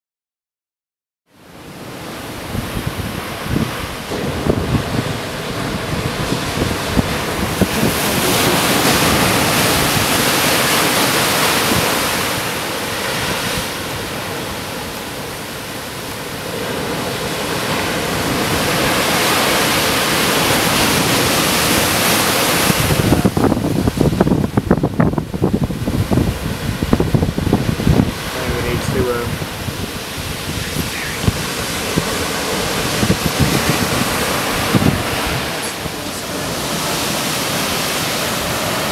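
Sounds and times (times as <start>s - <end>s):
ocean surf crashing on rocks: 1.4s - 38.9s
wind buffeting microphone: 1.6s - 38.9s.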